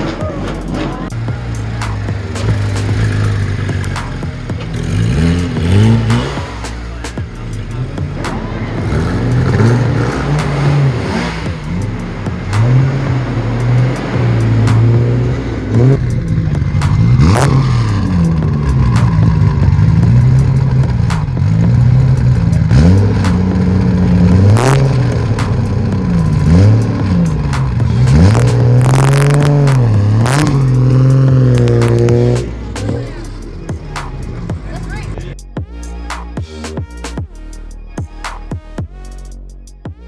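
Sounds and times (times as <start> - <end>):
sharp cracks: 0.0 - 35.4, 36.1 - 37.2, 38.2 - 38.6
car engine revving: 0.0 - 40.0.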